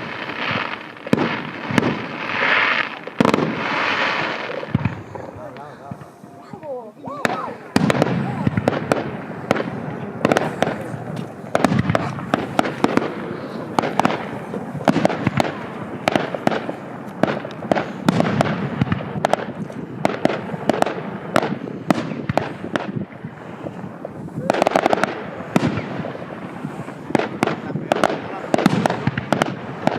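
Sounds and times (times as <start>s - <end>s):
fireworks bangs and crackling: 0.0s - 29.9s.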